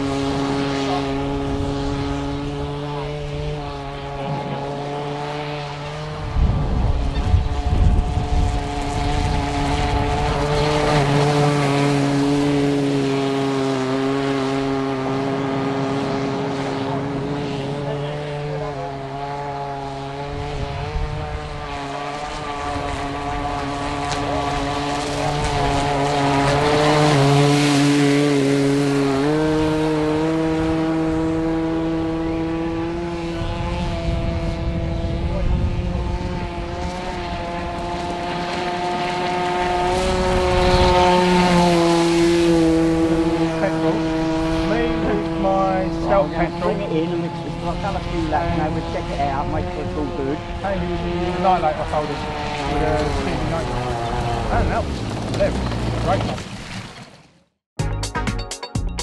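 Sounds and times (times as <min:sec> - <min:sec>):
model boat motor buzzing: 0:00.0 - 0:54.9.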